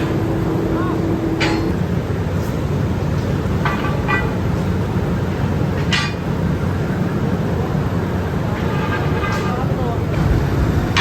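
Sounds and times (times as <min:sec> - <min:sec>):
heavy factory machinery rumbling: 0:00.0 - 0:11.0.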